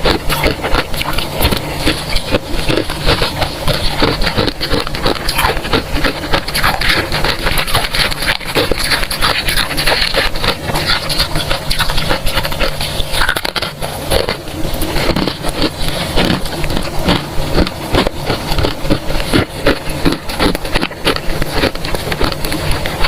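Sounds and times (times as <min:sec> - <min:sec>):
frost being bitten and chewed: 0:00.0 - 0:23.0.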